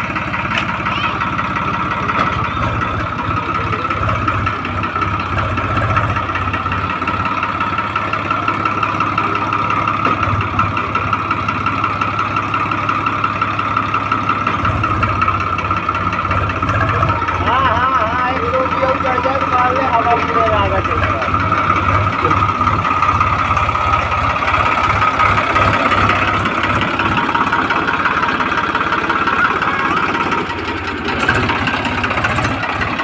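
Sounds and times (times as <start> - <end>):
heavy machine diesel engine running: 0.0 - 33.0.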